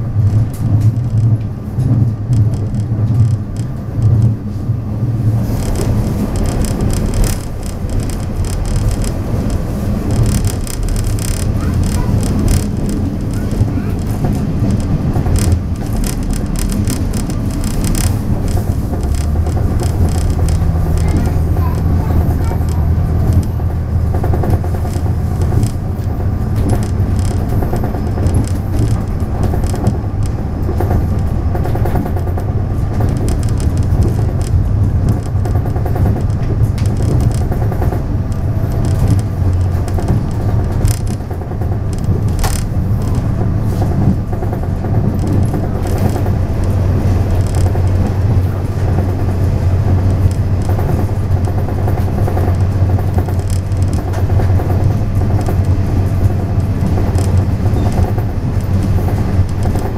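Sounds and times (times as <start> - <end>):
diesel train drone: 0.0 - 59.9
track clicks and rattles: 0.0 - 59.9.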